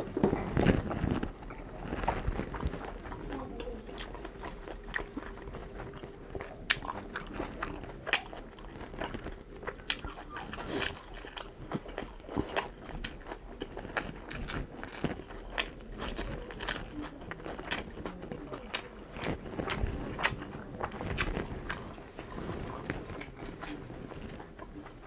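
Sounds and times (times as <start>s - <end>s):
person chewing wetly: 0.0s - 25.0s.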